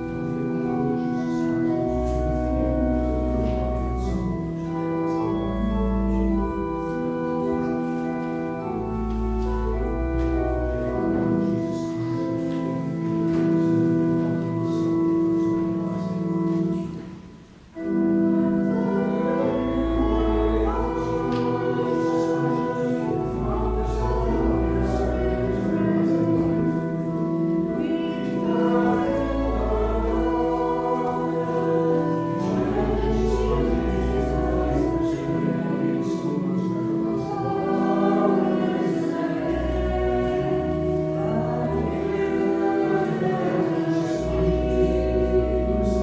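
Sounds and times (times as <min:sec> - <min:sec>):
voices singing a hymn: 0:00.0 - 0:17.2, 0:17.8 - 0:46.0
church organ playing: 0:00.0 - 0:46.0.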